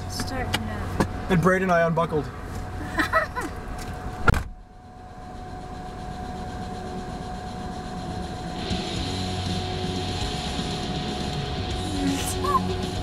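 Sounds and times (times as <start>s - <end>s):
in-car hum: 0.0s - 13.0s.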